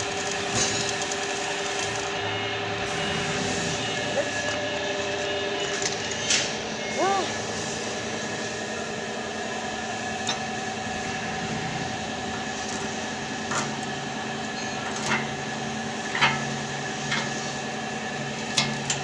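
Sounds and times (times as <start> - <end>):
welding arc hissing and humming: 0.0 - 5.2, 6.4 - 19.0.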